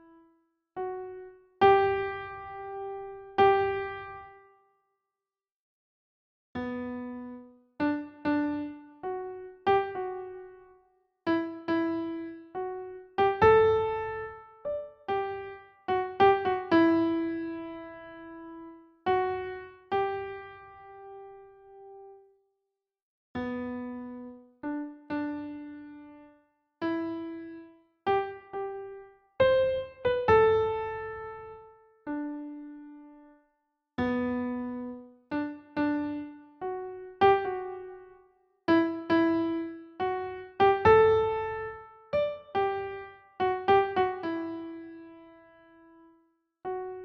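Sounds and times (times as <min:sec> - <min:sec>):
slow piano-like keyboard melody: 0:00.0 - 0:04.8, 0:06.6 - 0:22.4, 0:23.4 - 0:47.0.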